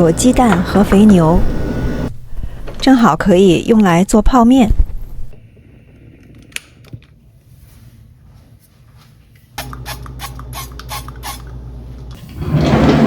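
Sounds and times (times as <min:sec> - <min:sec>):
low appliance hum: 0:00.0 - 0:13.0.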